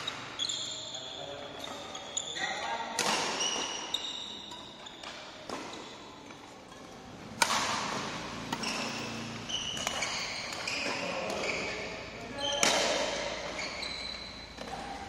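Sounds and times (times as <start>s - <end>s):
shoes squeaking on court: 0.0s - 15.0s
rackets striking shuttlecock: 1.5s - 2.2s, 2.9s - 15.0s.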